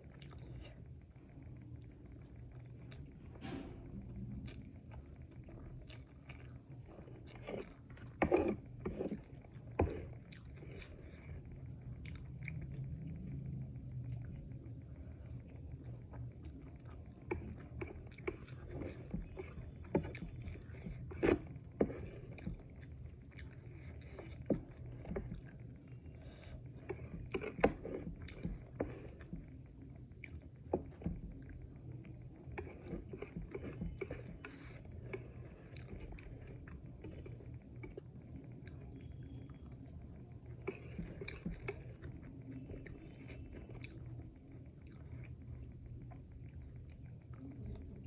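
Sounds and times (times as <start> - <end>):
person chewing food: 0.0 - 48.0.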